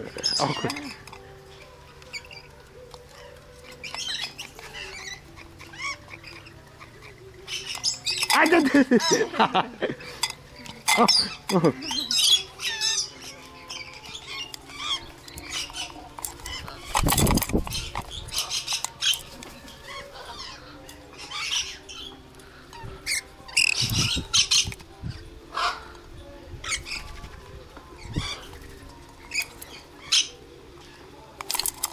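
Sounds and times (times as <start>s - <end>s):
parrots squawking and screeching: 0.1s - 9.4s, 10.0s - 26.0s, 26.6s - 27.2s, 27.9s - 31.9s.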